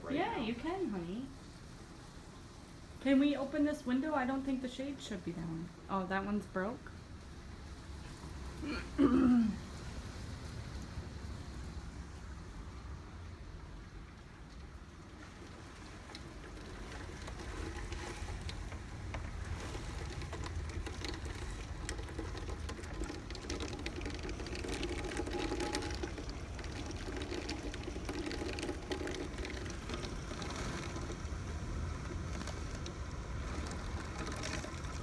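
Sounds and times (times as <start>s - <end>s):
driving rain spatter: 0.0s - 35.0s.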